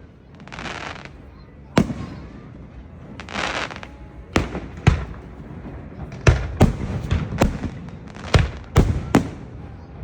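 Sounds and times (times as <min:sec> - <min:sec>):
fireworks exploding: 0:00.4 - 0:10.0.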